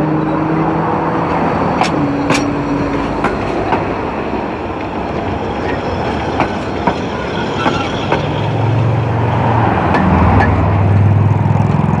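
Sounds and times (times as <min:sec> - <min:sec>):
steady rolling noise: 0:00.0 - 0:12.0
vehicle engine hum: 0:00.0 - 0:12.0.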